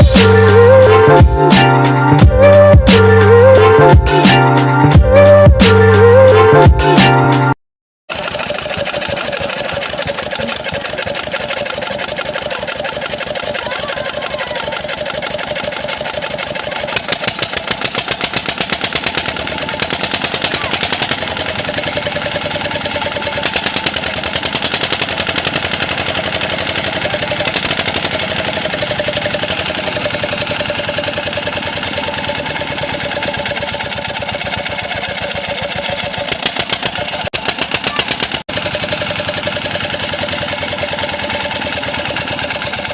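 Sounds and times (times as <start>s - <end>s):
diesel engine knocking: 8.1s - 42.9s.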